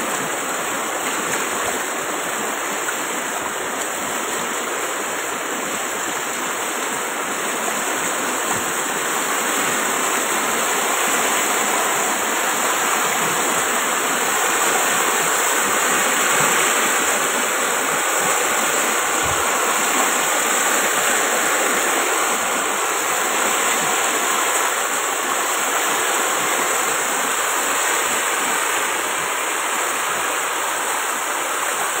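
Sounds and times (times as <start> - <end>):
floodwater rushing over road: 0.0 - 32.0.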